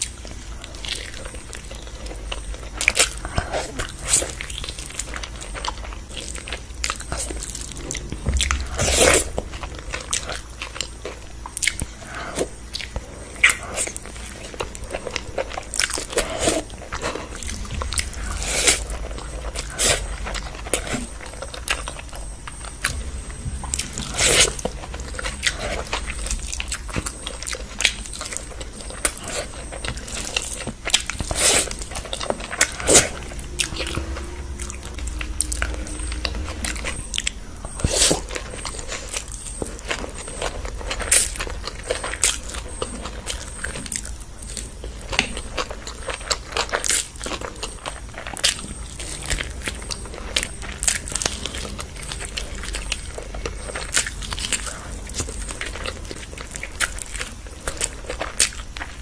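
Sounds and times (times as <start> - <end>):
wet chewing and lip smacking: 0.0 - 59.0.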